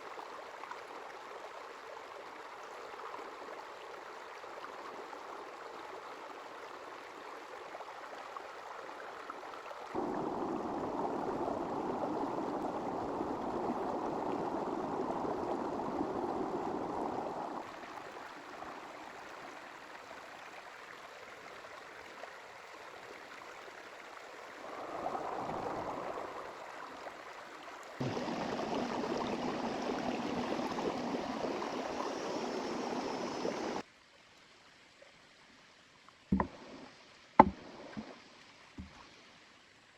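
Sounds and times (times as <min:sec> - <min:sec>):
river flowing and burbling: 0:00.0 - 0:33.9, 0:36.3 - 0:39.6.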